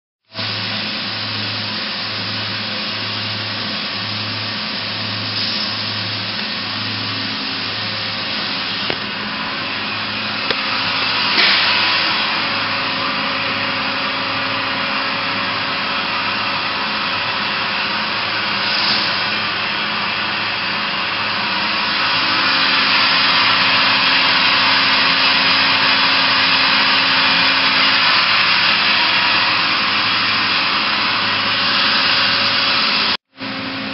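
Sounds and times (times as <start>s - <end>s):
machining center running: 0.3s - 33.9s.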